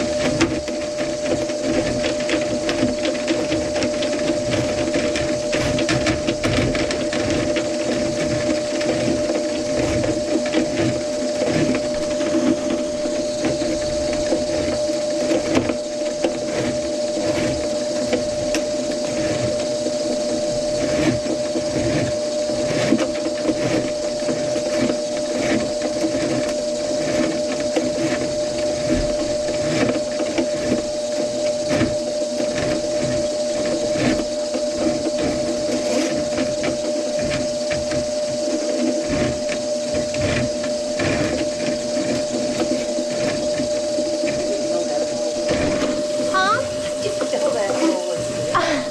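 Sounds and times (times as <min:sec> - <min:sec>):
drain cleaning machine humming: 0:00.0 - 0:48.9
spinning cable clicking and rattling: 0:00.0 - 0:48.9.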